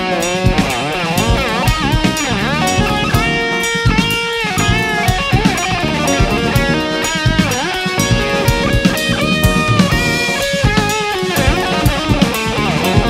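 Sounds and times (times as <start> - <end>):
bass guitar: 0.0 - 13.0
drum kit: 0.0 - 13.0
electric guitar lead with vibrato: 0.0 - 13.0.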